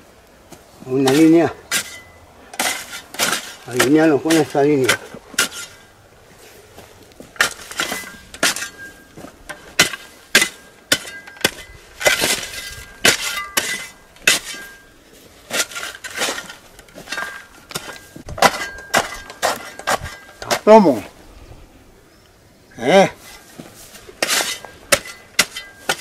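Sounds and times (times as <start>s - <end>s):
shovel scraping stony soil: 0.6s - 21.2s, 23.1s - 26.0s.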